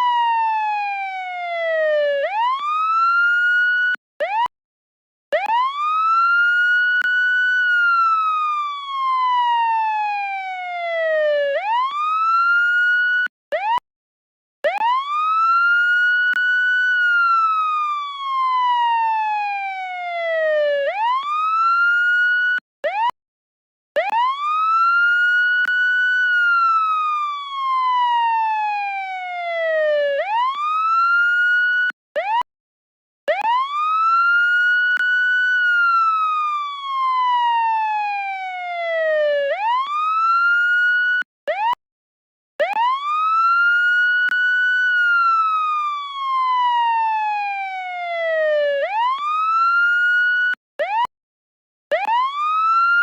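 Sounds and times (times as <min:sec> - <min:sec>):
police siren wailing: 0:00.0 - 0:04.5, 0:05.3 - 0:13.8, 0:14.6 - 0:23.1, 0:24.0 - 0:32.4, 0:33.3 - 0:41.8, 0:42.6 - 0:51.1, 0:51.9 - 0:53.0.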